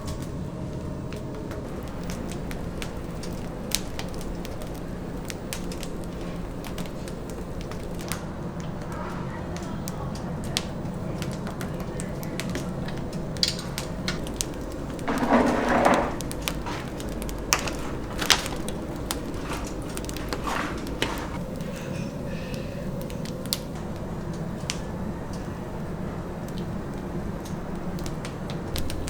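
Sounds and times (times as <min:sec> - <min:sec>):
rustling: 0:00.0 - 0:25.0
steady low hum: 0:00.0 - 0:29.0.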